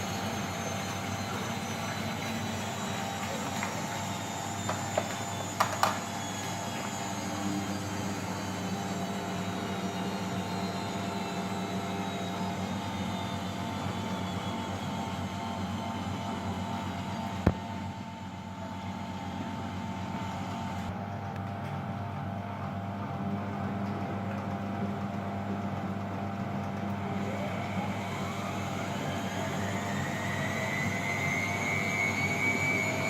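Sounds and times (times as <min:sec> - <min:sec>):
washing machine humming: 0:00.0 - 0:33.0.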